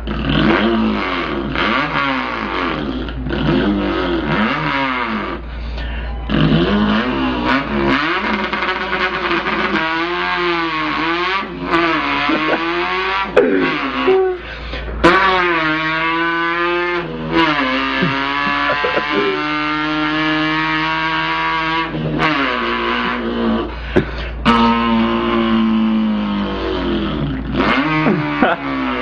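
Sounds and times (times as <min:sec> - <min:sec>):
man imitating car engine: 0:00.0 - 0:29.0.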